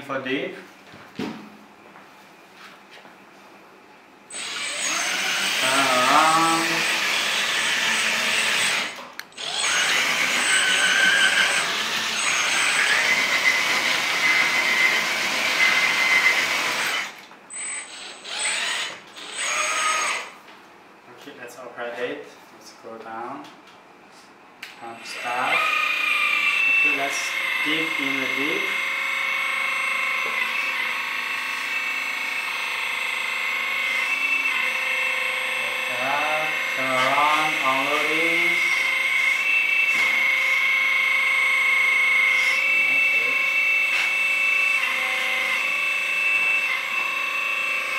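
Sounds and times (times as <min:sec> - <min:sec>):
hydraulic motor whine: 0:04.3 - 0:20.4, 0:25.0 - 0:47.9.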